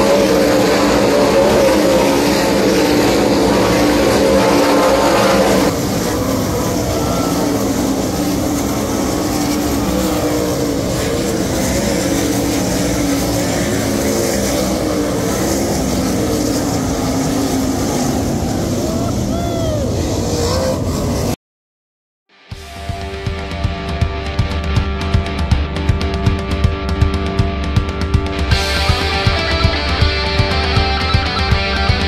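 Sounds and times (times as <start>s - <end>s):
race car engines roaring: 0.0s - 21.4s, 22.8s - 32.0s.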